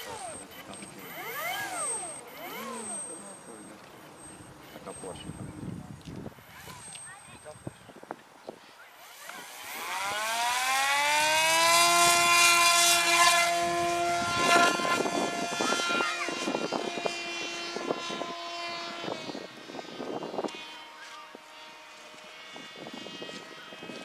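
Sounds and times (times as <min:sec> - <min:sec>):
model aircraft motor whine: 0:00.0 - 0:24.0.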